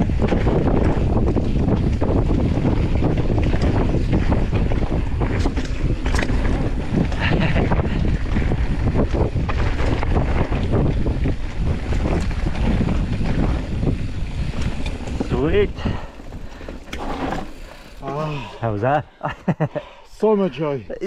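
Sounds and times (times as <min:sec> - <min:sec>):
bike knocking and rattling: 0:00.0 - 0:18.4
bike tyres rumbling over dirt: 0:00.0 - 0:18.8
wind buffeting microphone: 0:00.0 - 0:19.5.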